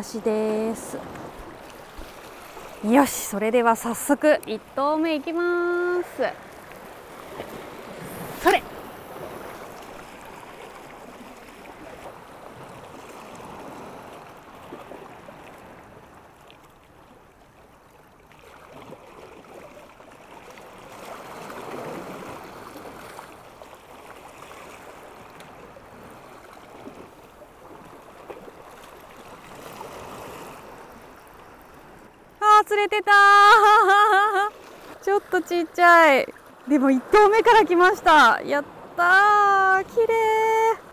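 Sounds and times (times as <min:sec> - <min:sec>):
small waves lapping against rocks: 0:00.0 - 0:32.8, 0:34.4 - 0:40.9.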